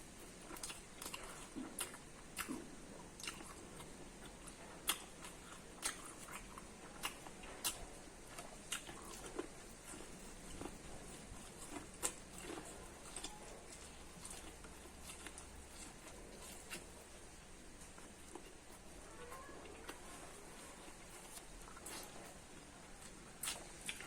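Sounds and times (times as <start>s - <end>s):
person chewing corn: 0.0s - 24.0s.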